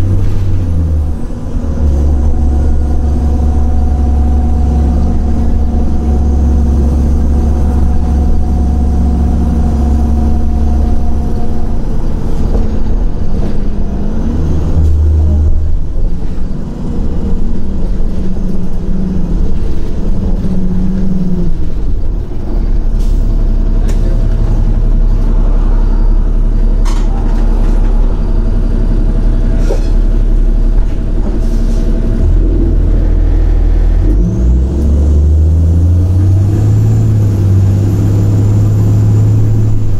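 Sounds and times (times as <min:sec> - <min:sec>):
diesel bus engine droning: 0:00.0 - 0:39.9.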